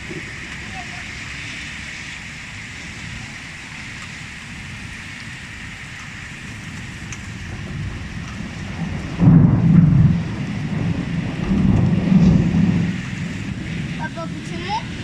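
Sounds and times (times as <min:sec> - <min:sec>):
rain hissing: 0:00.0 - 0:15.0
vehicle rumble: 0:00.0 - 0:15.0.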